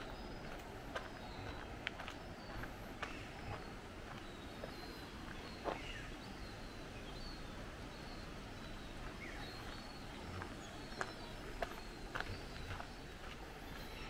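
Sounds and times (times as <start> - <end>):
small birds chirping: 0.0 - 14.0
steady outdoor hiss: 0.0 - 14.0.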